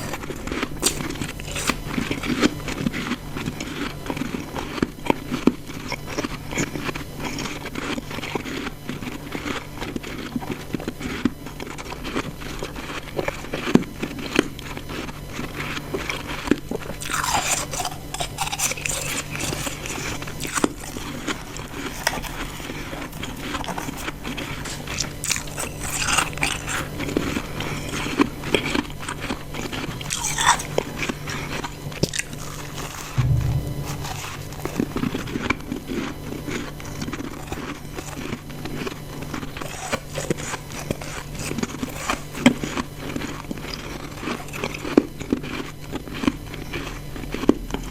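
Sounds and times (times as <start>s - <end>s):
ice being chewed: 0.0s - 33.2s, 36.0s - 47.9s.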